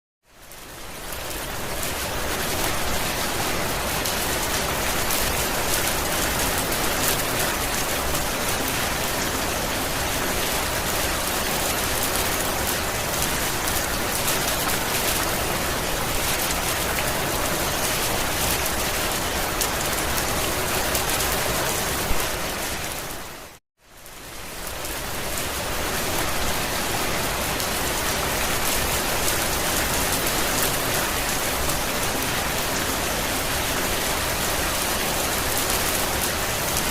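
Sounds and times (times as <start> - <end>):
rain pattering on a roof: 0.3 - 36.9.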